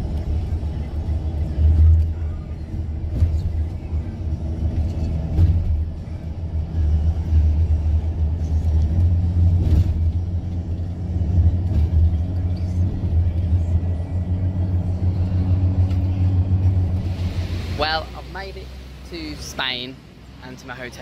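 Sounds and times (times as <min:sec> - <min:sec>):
vehicle rumble in motion: 0:00.0 - 0:21.0.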